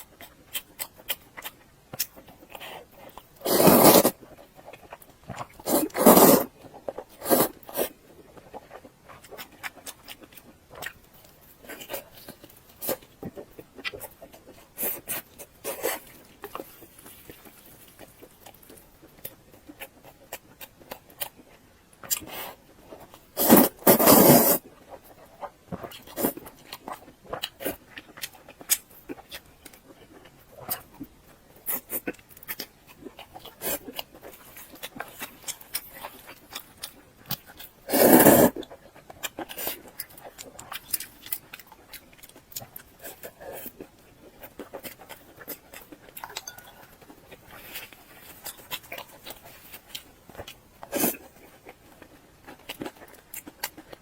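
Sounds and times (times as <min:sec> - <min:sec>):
person chewing with mouth clicks: 0:00.0 - 0:54.0.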